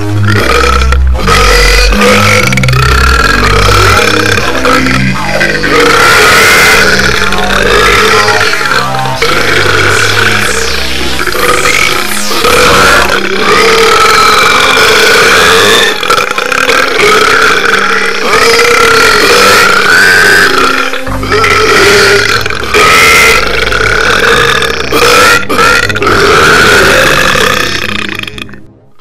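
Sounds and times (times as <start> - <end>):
person burping loudly: 0.0 - 28.7.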